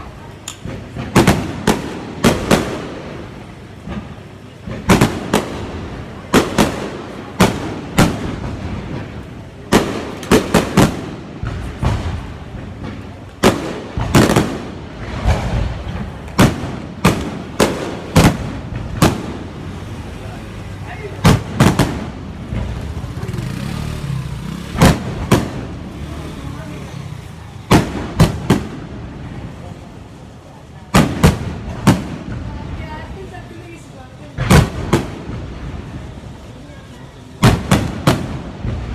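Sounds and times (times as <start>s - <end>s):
fireworks bangs with rumbling echo: 0.0s - 38.9s.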